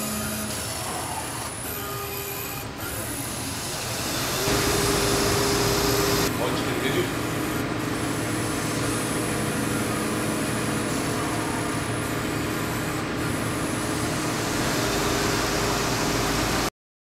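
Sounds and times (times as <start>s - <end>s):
deeper machine hum: 0.0s - 16.7s
lathe machine hum: 0.0s - 16.7s
steady machine tones: 0.0s - 16.7s.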